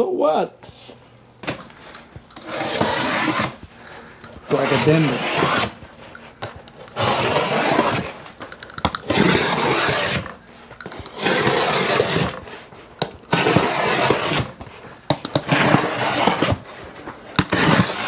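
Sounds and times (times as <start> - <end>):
tool scraping paper: 1.8 - 8.3, 8.9 - 18.0.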